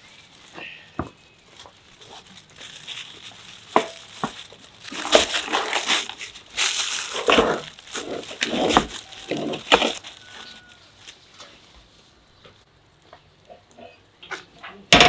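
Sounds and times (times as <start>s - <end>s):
aluminium foil crinkling: 0.0s - 14.9s.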